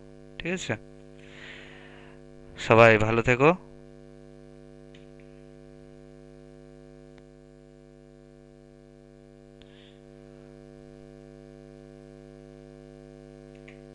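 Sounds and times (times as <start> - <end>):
electrical mains hum: 0.0 - 13.9.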